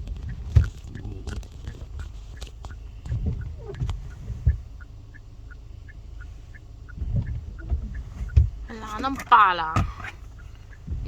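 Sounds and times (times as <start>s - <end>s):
dull thumps: 0.0s - 4.9s, 5.8s - 11.0s
low rumbling: 0.0s - 11.0s.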